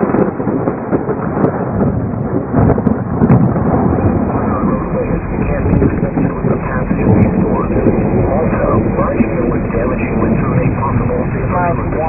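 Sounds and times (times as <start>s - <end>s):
rain: 0.0s - 12.0s
rumbling thunder: 0.0s - 12.0s.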